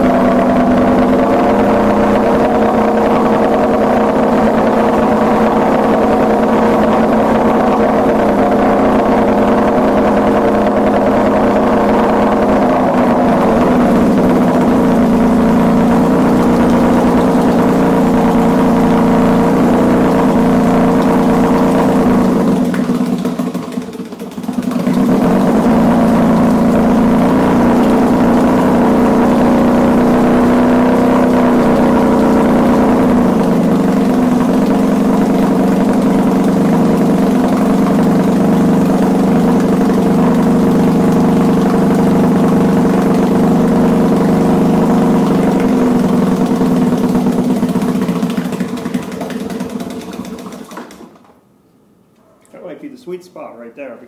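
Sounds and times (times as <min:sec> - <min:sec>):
outboard motor idling: 0:00.0 - 0:51.3.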